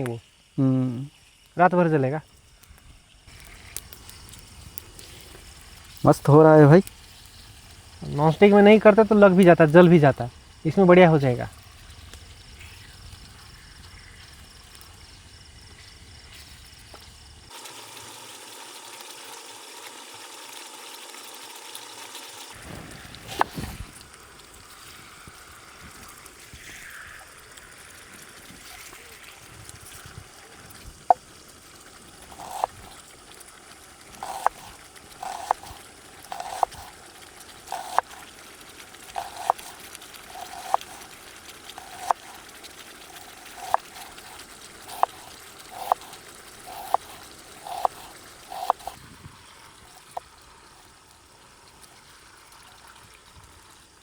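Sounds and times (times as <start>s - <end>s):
chicken sizzling in a pan: 2.2s - 54.0s.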